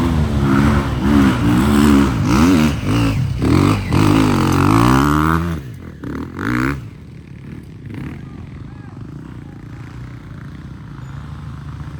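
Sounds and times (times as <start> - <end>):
motocross bike engines revving: 0.0 - 11.9.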